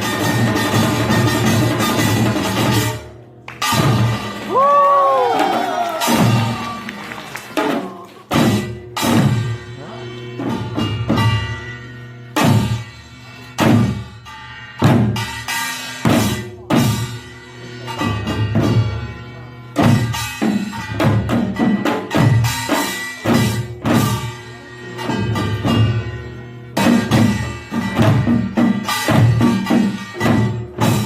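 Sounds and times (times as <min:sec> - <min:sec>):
drums: 0:00.0 - 0:31.0.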